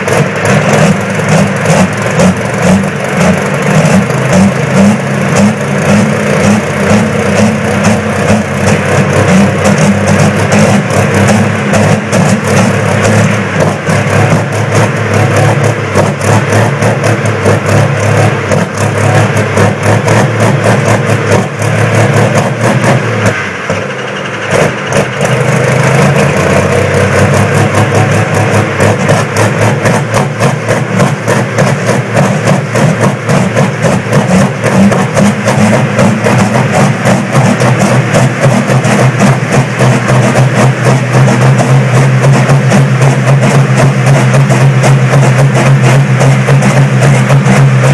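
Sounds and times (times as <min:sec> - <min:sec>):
diesel tractor engines running: 0:00.0 - 0:47.9.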